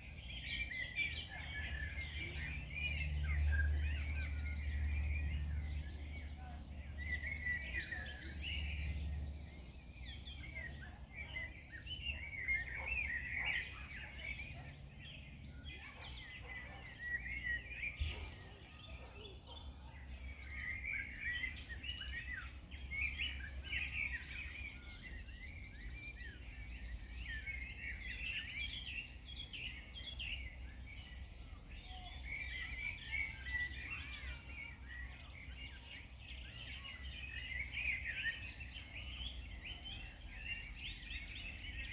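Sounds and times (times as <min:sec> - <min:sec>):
birds chirping chorus: 0:00.0 - 0:41.9.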